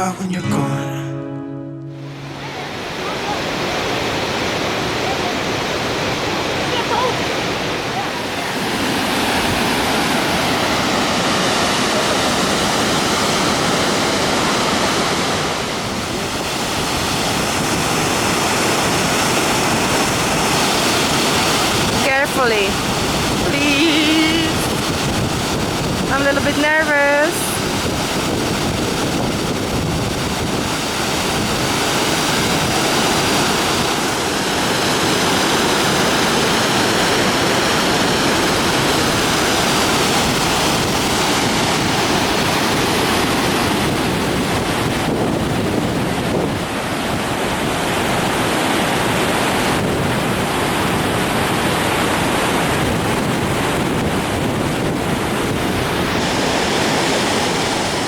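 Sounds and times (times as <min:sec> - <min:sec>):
rushing water roar: 0:02.0 - 0:58.0.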